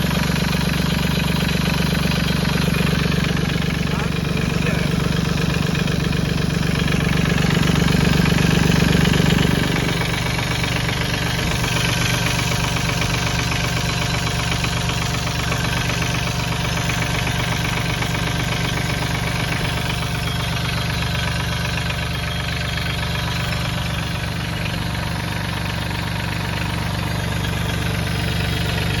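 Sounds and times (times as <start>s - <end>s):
diesel tractor engine idling: 0.0s - 29.0s.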